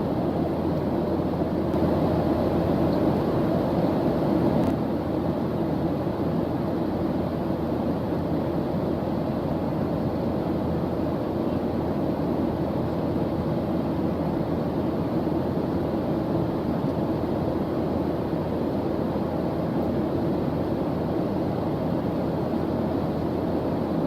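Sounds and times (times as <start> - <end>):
white noise hiss: 0.0 - 24.0.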